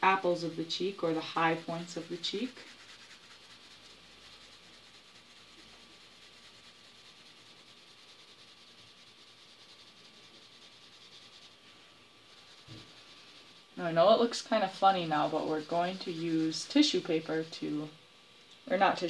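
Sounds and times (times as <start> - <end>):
pencil shading on paper: 0.3 - 17.5.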